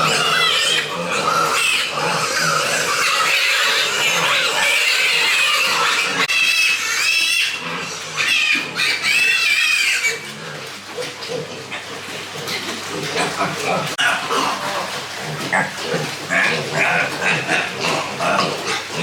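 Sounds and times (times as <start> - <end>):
pigs squealing: 0.0 - 19.0.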